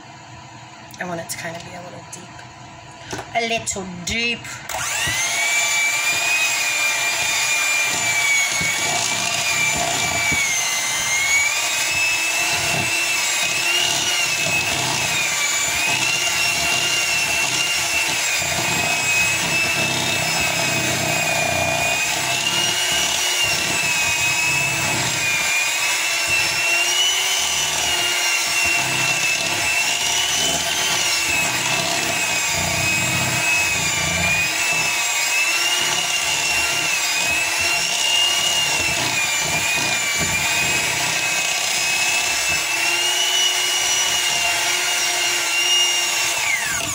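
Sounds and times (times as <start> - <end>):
handheld electric mixer whine: 2.3 - 46.9.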